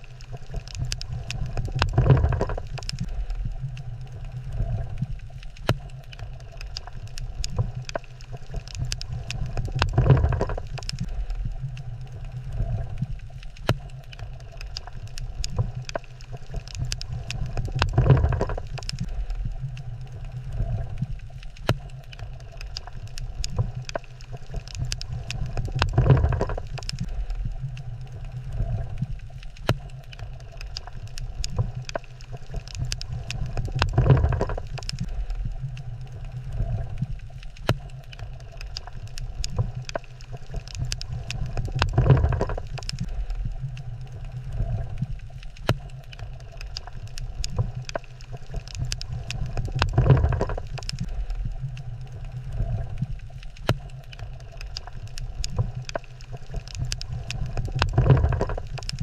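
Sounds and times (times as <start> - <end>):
sharp underwater clicks: 0.0 - 59.0
underwater low rumble: 0.0 - 59.0.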